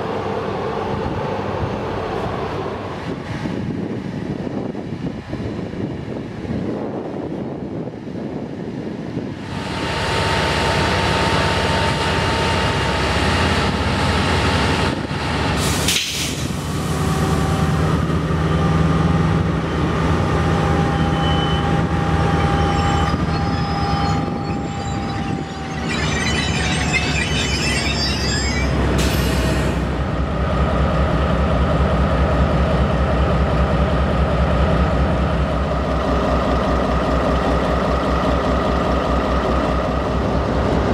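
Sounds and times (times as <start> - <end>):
electric locomotive humming and whining: 0.0 - 40.9.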